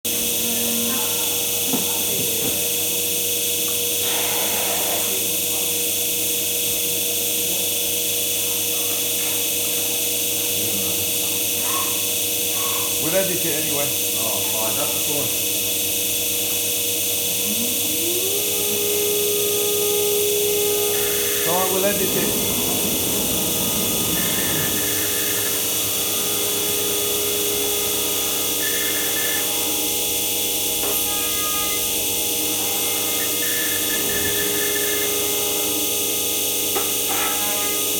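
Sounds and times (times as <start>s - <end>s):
cnc machine humming: 0.0s - 4.0s, 5.1s - 37.9s.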